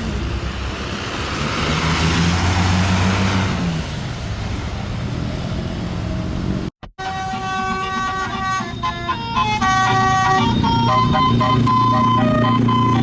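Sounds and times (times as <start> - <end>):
bus passing by: 0.0 - 13.0.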